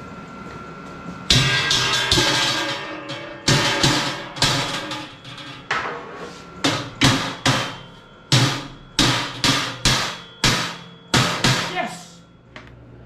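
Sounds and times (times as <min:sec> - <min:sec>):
hammer striking steel: 0:01.3 - 0:12.4.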